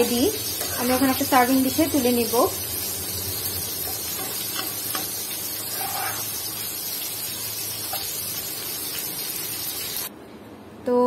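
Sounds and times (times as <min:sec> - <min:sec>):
food sizzling in a frying pan: 0:00.0 - 0:10.1.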